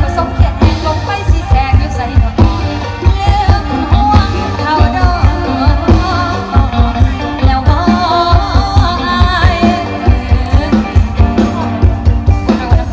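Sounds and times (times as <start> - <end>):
woman singing: 0.0 - 11.7, 12.3 - 12.9
live band playing folk song: 0.0 - 12.9.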